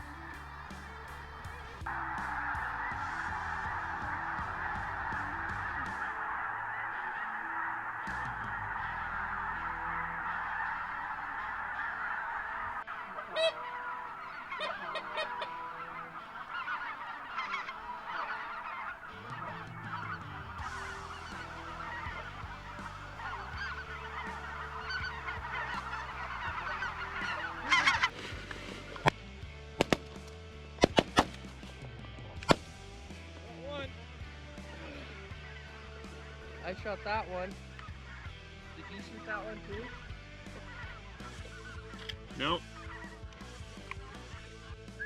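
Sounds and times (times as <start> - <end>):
flock of geese honking: 0.0 - 29.1, 34.6 - 45.0.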